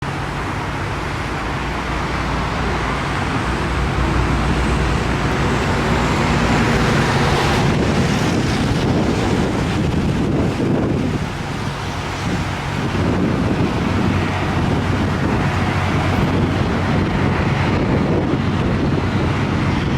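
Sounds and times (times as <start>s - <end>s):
locomotive engine drone: 0.0s - 19.9s
wind buffeting microphone: 0.0s - 19.9s.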